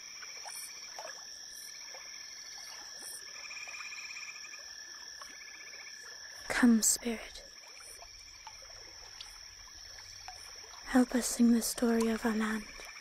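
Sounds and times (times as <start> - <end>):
high insect whine: 0.0 - 13.0.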